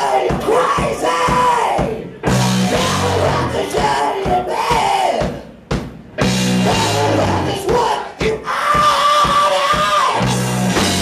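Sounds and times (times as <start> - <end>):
live hard rock band: 0.0 - 11.0.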